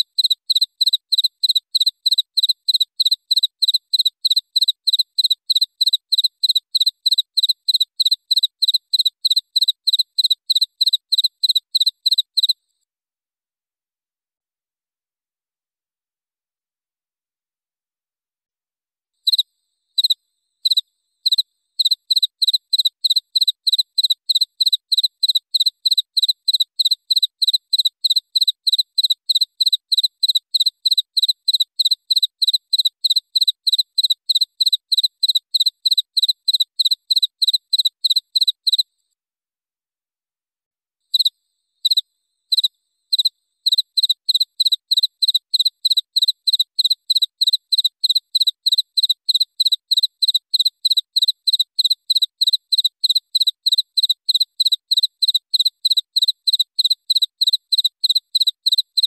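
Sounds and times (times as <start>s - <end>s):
cricket chirping: 0.0s - 12.6s, 19.2s - 38.8s, 41.1s - 59.0s.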